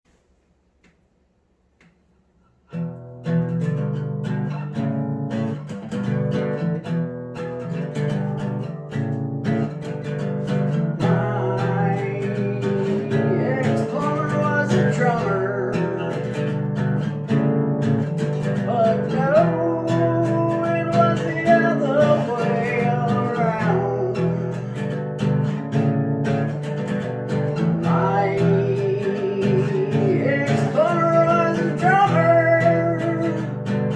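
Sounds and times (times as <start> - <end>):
bending guitar melody: 2.7 - 33.9
strummed guitar chords: 2.7 - 33.9.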